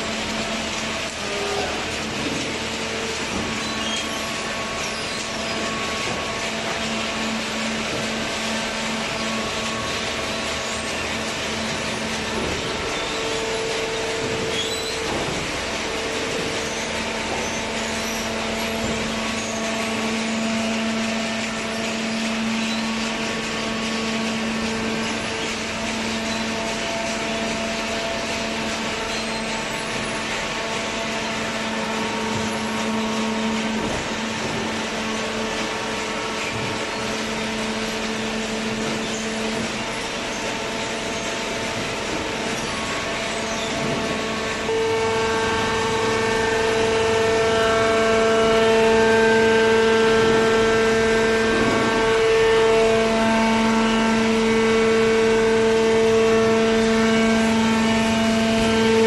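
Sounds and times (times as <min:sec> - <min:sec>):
baler machine hum: 0:00.0 - 0:59.0.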